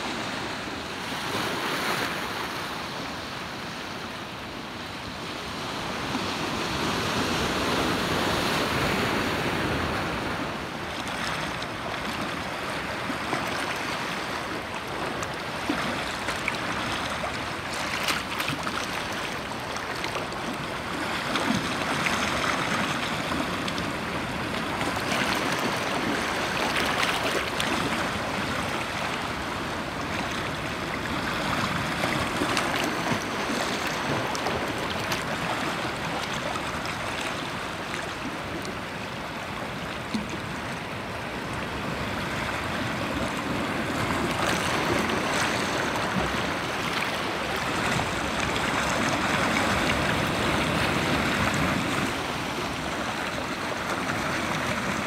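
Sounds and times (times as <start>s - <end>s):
waves washing over rocks: 0.0s - 55.0s.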